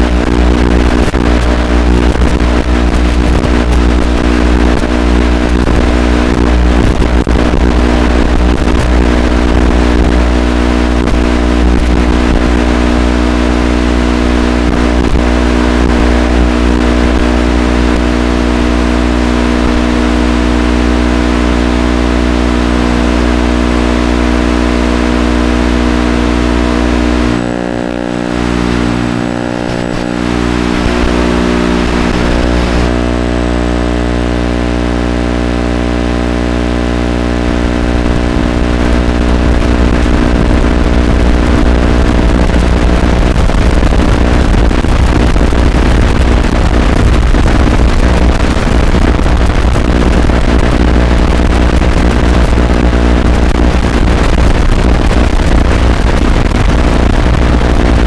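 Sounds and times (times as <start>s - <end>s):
steady hum with overtones: 0.0s - 58.0s.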